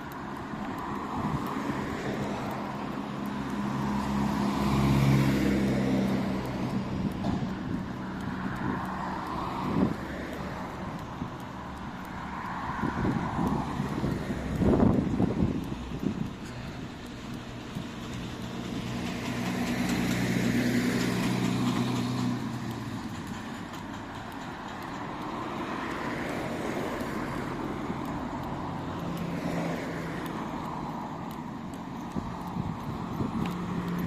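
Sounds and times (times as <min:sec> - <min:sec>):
vehicle engine: 0:00.0 - 0:34.0
vehicle passing: 0:00.0 - 0:34.0.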